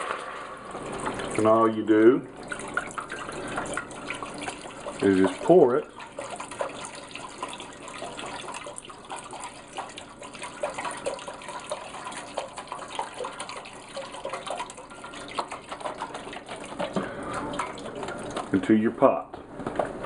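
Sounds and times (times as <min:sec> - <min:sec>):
liquid pouring into a pot: 0:00.0 - 0:19.0.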